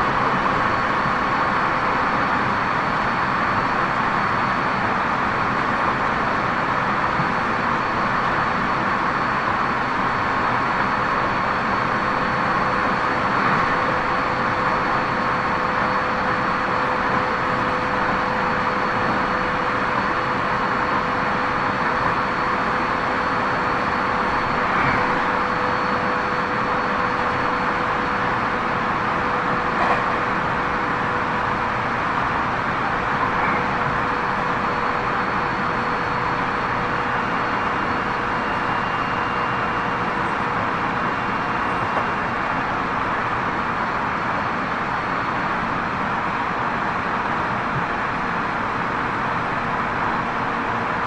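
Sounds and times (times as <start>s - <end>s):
steady train hum: 0.0s - 51.0s
train wheels rumbling on rail: 0.0s - 51.0s.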